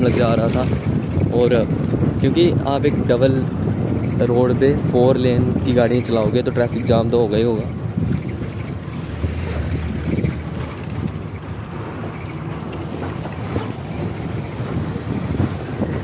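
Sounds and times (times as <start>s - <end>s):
bus rumbling over dirt track: 0.0s - 16.0s
wind buffeting microphone: 0.0s - 16.0s.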